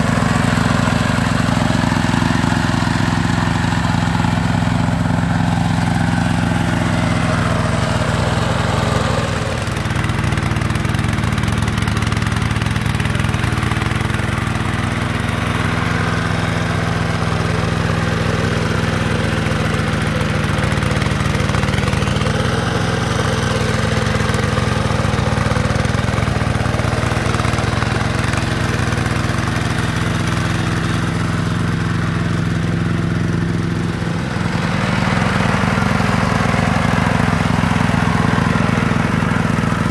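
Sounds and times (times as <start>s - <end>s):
hand tractor diesel engine: 0.0s - 39.9s.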